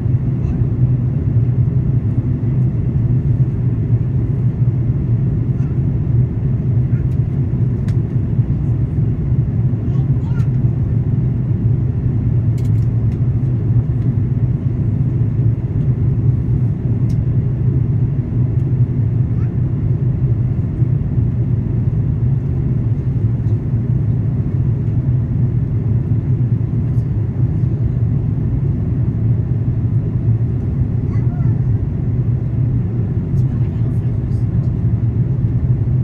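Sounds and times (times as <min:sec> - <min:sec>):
airplane cabin drone: 0:00.0 - 0:36.0.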